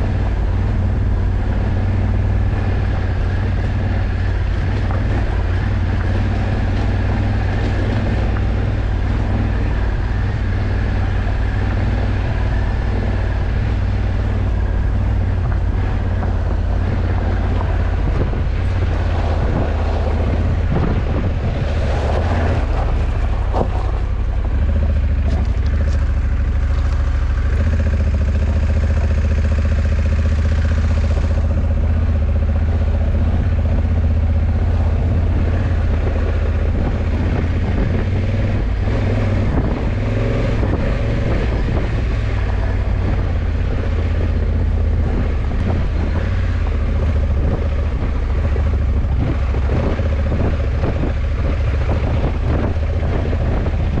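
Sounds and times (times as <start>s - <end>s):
motorcycle engine hum: 0.0s - 54.0s
wind noise on microphone: 0.0s - 54.0s.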